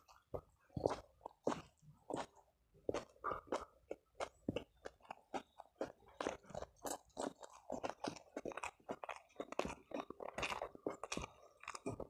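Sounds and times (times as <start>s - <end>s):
person chewing with wet smacks: 0.0s - 12.0s.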